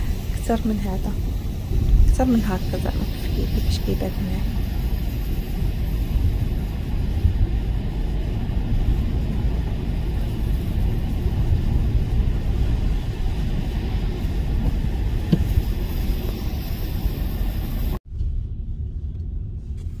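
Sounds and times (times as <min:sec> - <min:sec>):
car engine and tyres on wet road: 0:00.0 - 0:20.0.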